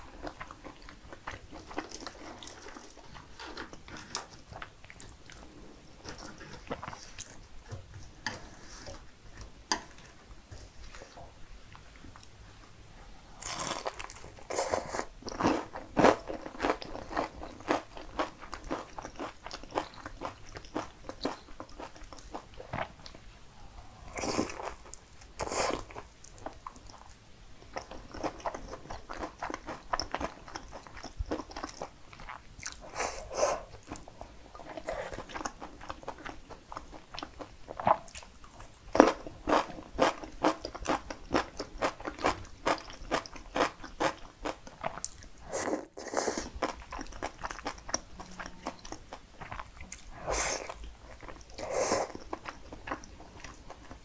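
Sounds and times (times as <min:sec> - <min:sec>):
crunching and chewing food: 0:00.0 - 0:07.8, 0:13.4 - 0:23.2, 0:24.1 - 0:54.0.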